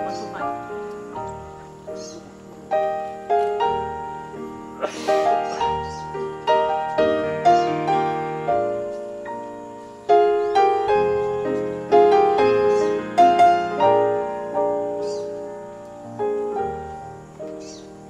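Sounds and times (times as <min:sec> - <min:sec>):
solo piano music: 0:00.0 - 0:18.0.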